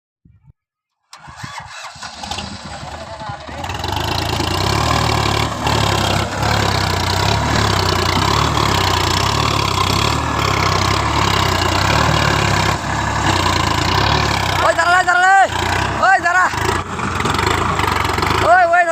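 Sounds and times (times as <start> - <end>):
tractor diesel engine running: 1.1 - 18.9.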